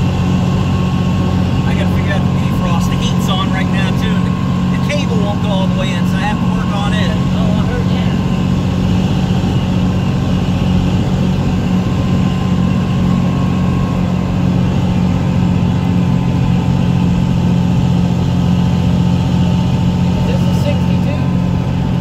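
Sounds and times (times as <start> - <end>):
road noise: 0.0 - 22.0
truck diesel engine drone: 0.0 - 22.0.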